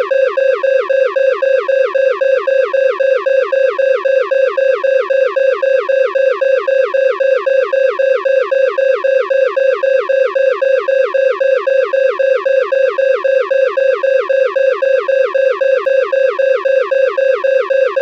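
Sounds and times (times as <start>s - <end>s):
pulsing electronic alarm: 0.0s - 18.0s.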